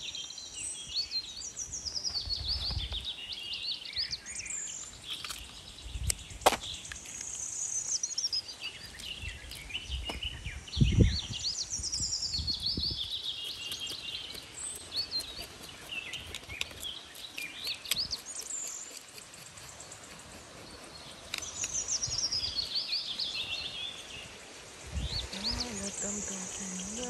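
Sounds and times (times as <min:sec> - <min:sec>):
bird chirps: 0:00.0 - 0:24.4
songbird singing: 0:00.0 - 0:27.0.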